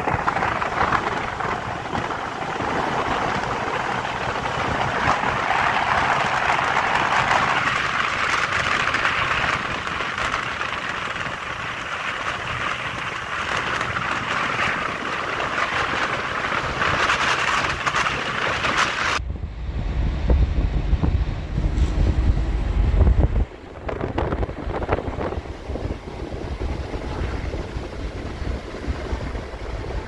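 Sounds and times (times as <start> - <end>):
wind and road noise in car: 0.0 - 30.0
wind buffeting microphone: 0.0 - 30.0.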